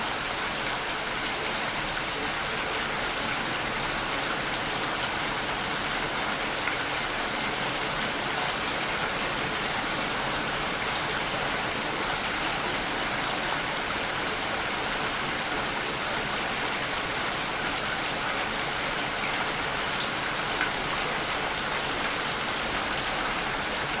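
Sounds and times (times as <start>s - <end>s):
steady rain hissing: 0.0s - 24.0s.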